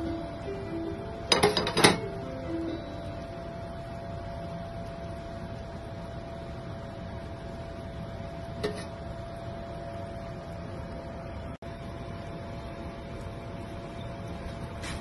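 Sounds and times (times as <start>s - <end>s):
faint constant whine: 0.0s - 15.0s
kitchen hum and hiss: 0.0s - 15.0s.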